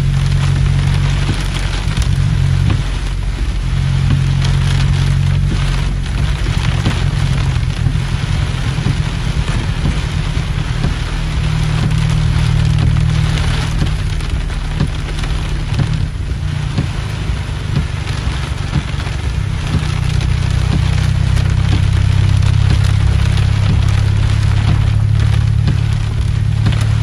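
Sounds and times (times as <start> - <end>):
deep steady rumble: 0.0 - 27.0
heavy rain on car roof: 0.0 - 27.0
sharp raindrop impacts: 0.0 - 27.0.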